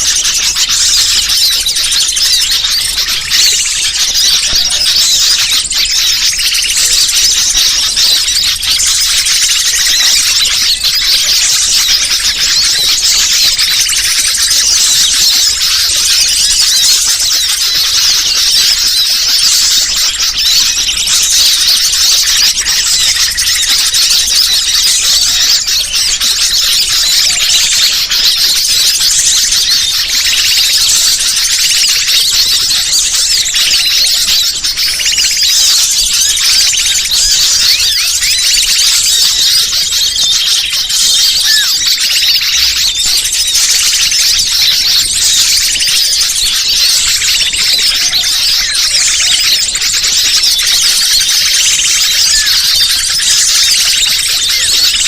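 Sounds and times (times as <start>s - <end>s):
small birds chirping and twittering: 0.0s - 55.0s.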